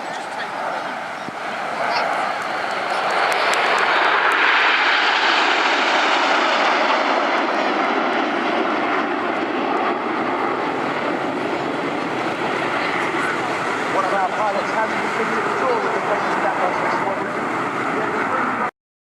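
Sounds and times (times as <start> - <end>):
jets passing overhead: 0.0 - 18.7.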